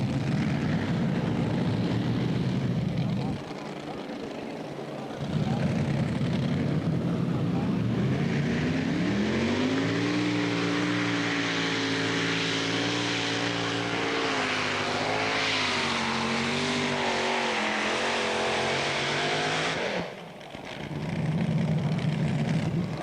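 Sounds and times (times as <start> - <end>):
tractor engines at full power: 0.0 - 23.0.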